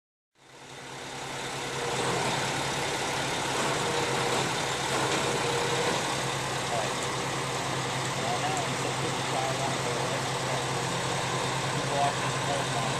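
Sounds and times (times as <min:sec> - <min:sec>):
engine idling: 0:00.4 - 0:12.9.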